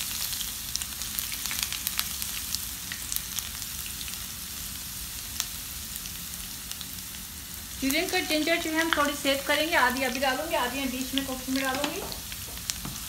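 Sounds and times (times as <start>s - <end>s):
hot oil sizzling: 0.0s - 13.0s
oil crackling and popping: 0.0s - 13.0s.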